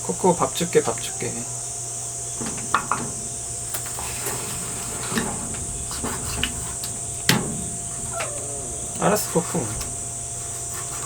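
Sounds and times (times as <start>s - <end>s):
low electrical hum: 0.0s - 11.0s
steady high hiss: 0.0s - 11.0s
knocks and clicks of handling: 2.1s - 11.0s.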